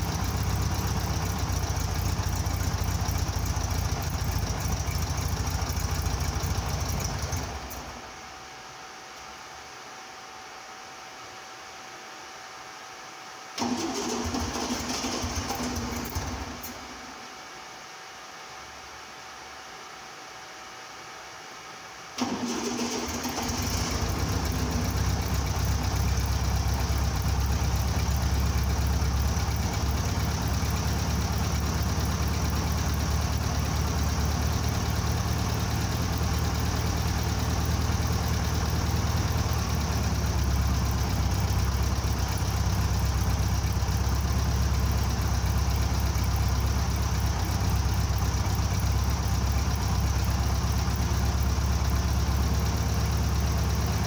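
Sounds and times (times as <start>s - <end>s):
car engine starting and idling: 0.0s - 8.2s, 13.6s - 17.2s, 22.2s - 54.0s.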